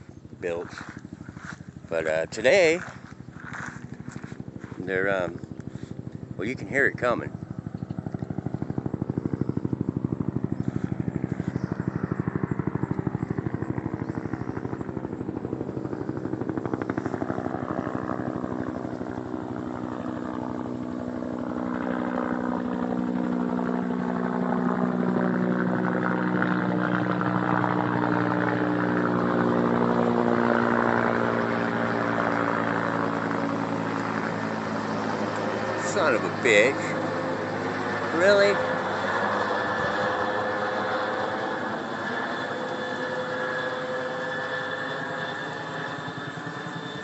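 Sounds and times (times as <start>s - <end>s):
helicopter engine whine: 0.0s - 47.0s
helicopter rotor blades beating: 0.0s - 47.0s.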